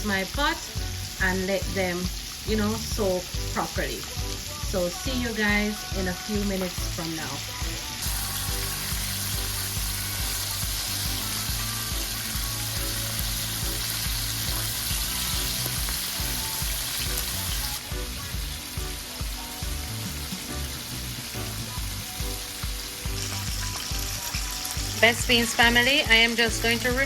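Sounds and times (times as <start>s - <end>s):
background music with beat: 0.0s - 27.0s
chicken deep-frying in oil: 0.0s - 27.0s.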